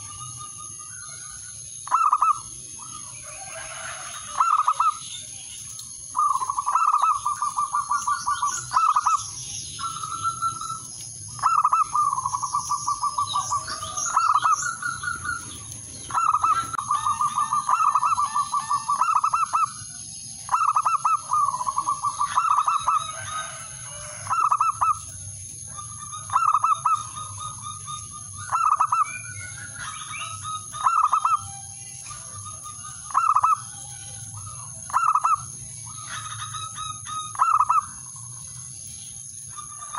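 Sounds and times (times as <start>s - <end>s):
dove cooing: 1.8s - 5.0s, 6.2s - 25.1s, 25.7s - 38.0s.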